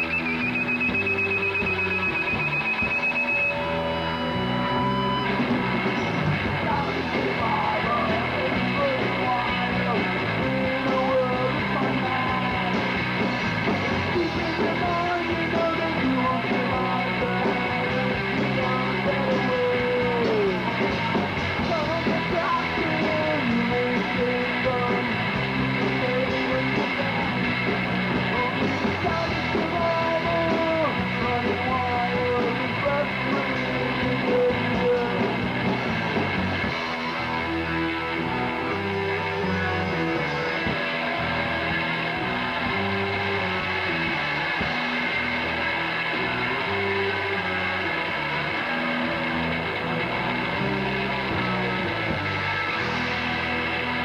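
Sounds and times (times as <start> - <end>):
electric guitar: 0.0 - 54.0
rock band playing live: 0.0 - 54.0.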